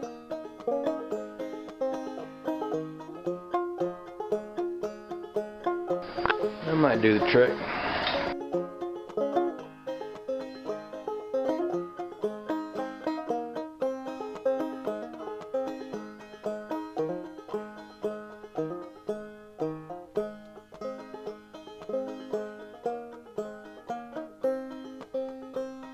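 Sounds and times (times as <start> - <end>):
bluegrass banjo picking: 0.0 - 25.9.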